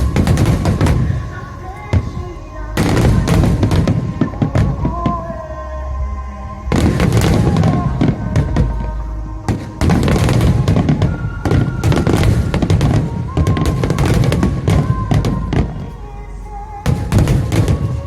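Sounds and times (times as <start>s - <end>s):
fireworks bursts and crackles: 0.0s - 5.5s, 6.6s - 18.0s
music playing: 0.0s - 18.0s.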